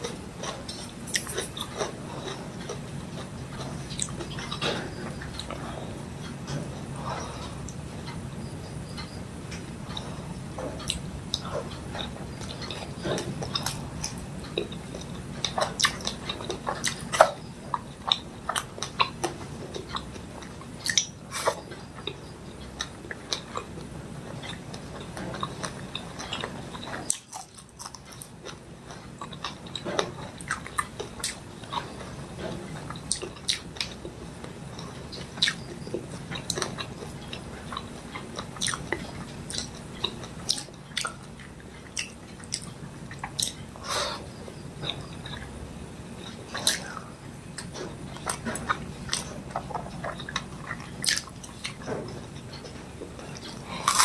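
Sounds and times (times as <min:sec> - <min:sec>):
chewing and lip-smacking: 0:00.0 - 0:43.8, 0:44.4 - 0:54.0.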